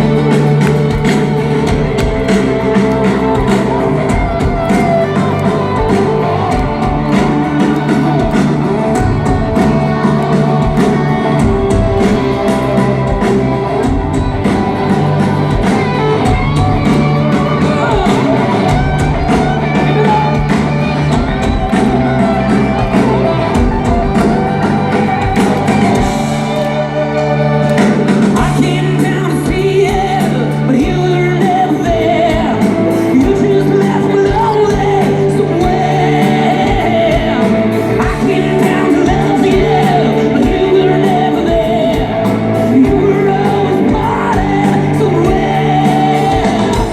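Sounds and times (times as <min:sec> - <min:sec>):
live rock band: 0:00.0 - 0:46.9
voices singing: 0:00.0 - 0:46.9.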